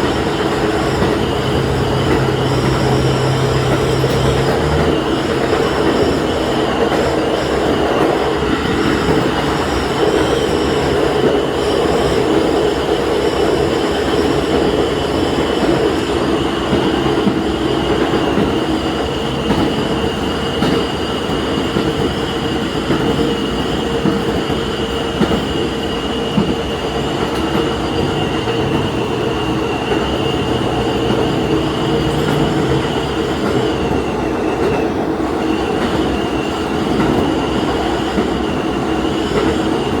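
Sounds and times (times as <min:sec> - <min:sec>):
train engine and rail noise: 0:00.0 - 0:40.0.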